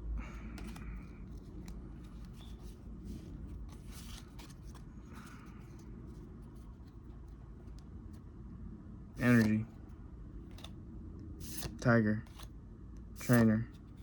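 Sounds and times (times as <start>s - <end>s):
cards rustling: 0.3s - 8.2s, 9.2s - 14.0s
trading cards clicking and scraping: 0.4s - 7.8s, 9.2s - 9.8s, 10.5s - 14.0s.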